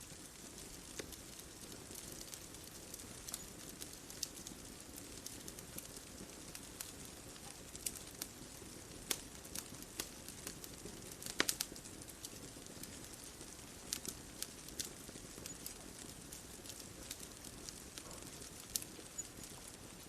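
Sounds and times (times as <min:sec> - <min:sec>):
bonfire crackling and popping: 0:00.0 - 0:20.0.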